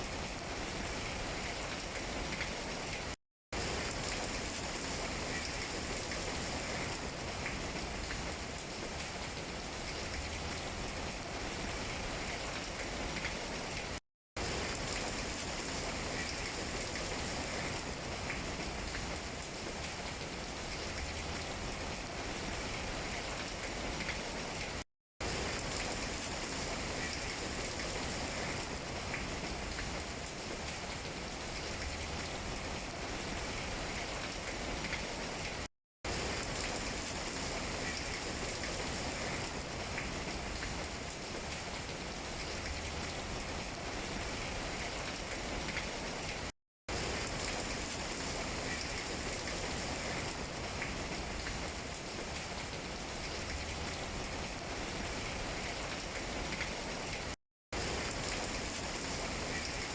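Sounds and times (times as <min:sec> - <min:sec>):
rain pattering on leaves: 0:00.2 - 0:59.9.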